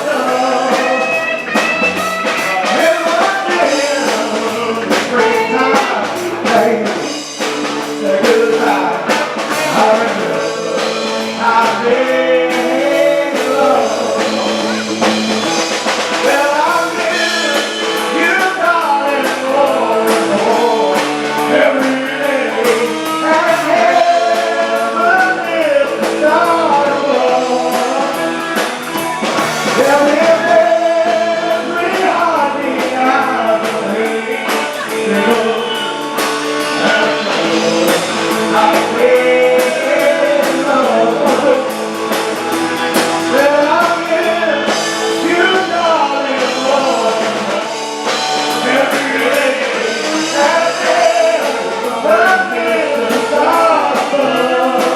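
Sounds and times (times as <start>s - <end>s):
lead singer singing: 0.0s - 54.9s
live band playing: 0.0s - 54.9s.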